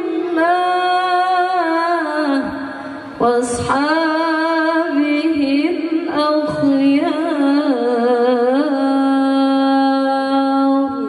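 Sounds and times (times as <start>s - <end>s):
woman chanting into a microphone: 0.0s - 11.0s.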